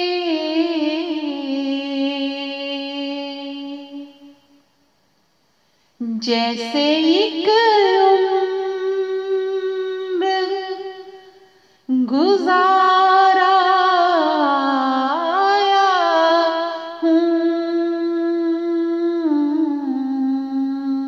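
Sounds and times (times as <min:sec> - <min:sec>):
woman singing: 0:00.0 - 0:04.4, 0:06.0 - 0:21.0.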